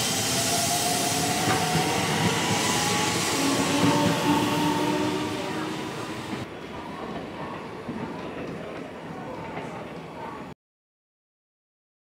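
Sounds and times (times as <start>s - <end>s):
train wheels rushing on rail: 0.0s - 10.4s.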